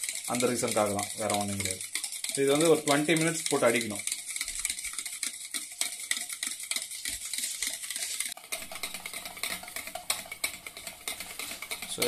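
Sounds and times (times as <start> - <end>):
wire whisk beating eggs: 0.0 - 12.0.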